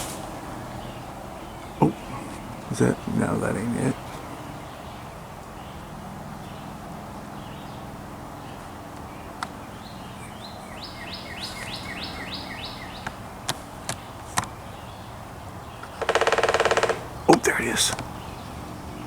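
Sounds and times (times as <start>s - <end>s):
outdoor background hiss: 0.0s - 19.0s
songbird chirping: 0.0s - 19.0s.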